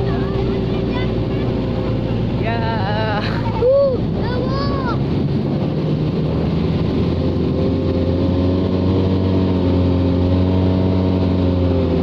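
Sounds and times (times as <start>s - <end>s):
engine running under load: 0.0s - 12.0s.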